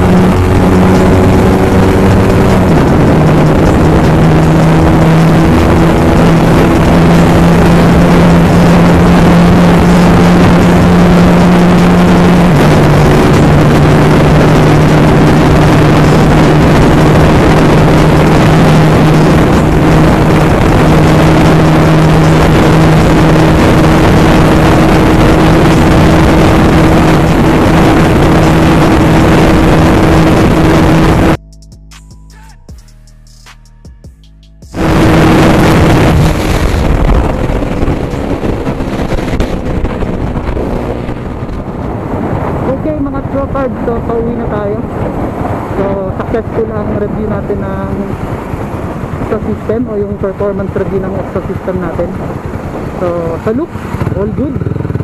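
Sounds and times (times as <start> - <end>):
motorcycle engine at high revs: 0.0 - 31.4, 34.7 - 55.0
wind rush: 0.0 - 31.4, 34.6 - 55.0.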